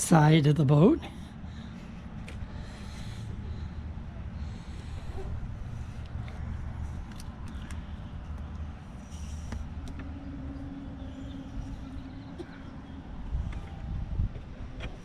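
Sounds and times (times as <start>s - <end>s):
faint steady hum: 0.0s - 15.0s
wind rumbling on microphone: 1.3s - 15.0s.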